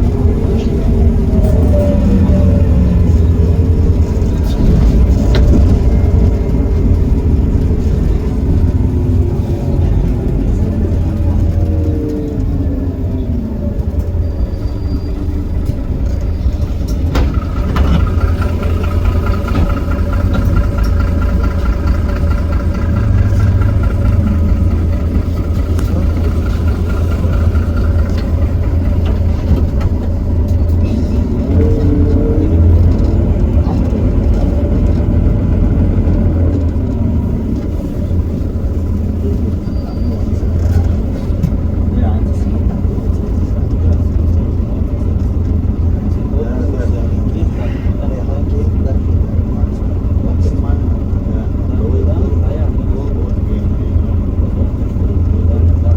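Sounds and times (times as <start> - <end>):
bus diesel engine rumble: 0.0 - 55.9.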